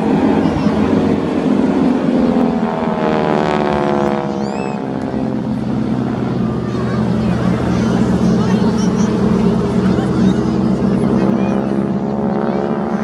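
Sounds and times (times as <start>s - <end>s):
aircraft engine drone: 0.0s - 13.0s
engine passing by: 0.0s - 13.0s.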